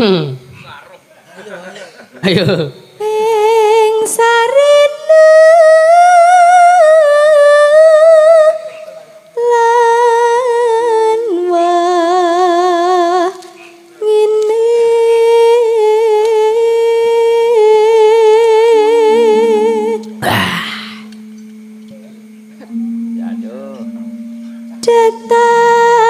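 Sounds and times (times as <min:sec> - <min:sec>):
woman singing with vibrato: 0:02.9 - 0:23.0, 0:24.0 - 0:26.0
low steady instrument notes: 0:02.9 - 0:26.0.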